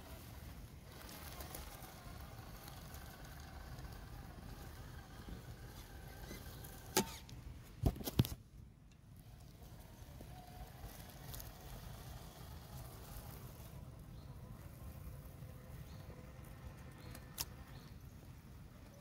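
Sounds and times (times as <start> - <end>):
small electric motor whining: 0.0 - 7.3, 9.2 - 18.1.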